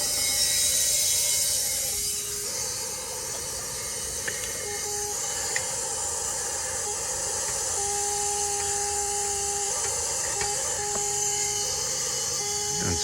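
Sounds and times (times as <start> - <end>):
gas hissing through hoses: 0.0 - 13.0
machine hum: 0.0 - 13.0.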